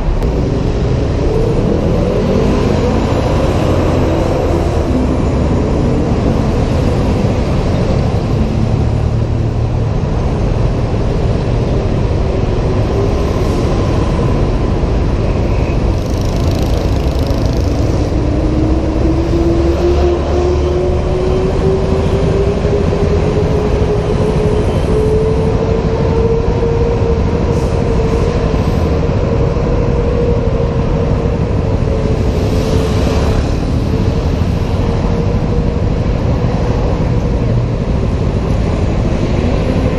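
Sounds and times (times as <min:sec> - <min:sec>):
scooter engine whine: 0:00.0 - 0:39.9
wind rumble on microphone: 0:00.0 - 0:39.9.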